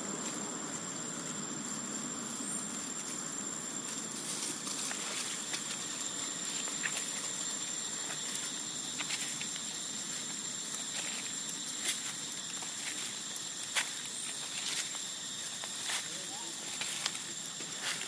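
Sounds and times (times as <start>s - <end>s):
steady outdoor hiss: 0.0s - 18.0s
dry leaves crackling and rustling: 0.1s - 18.0s.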